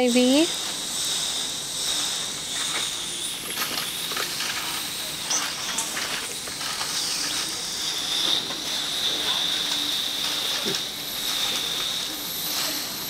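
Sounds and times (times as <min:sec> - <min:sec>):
gas hissing through tubing: 0:00.0 - 0:13.0.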